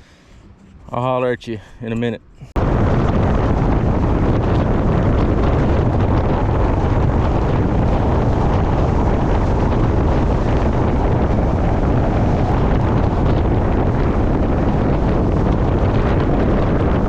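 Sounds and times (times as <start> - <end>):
boat motor running: 0.0 - 17.0
wind rumble on microphone: 2.4 - 17.0.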